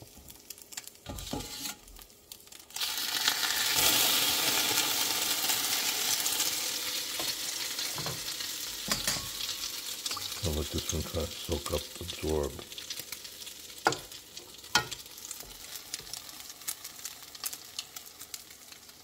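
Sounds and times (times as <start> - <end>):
bread sizzling in a skillet: 0.0 - 19.0.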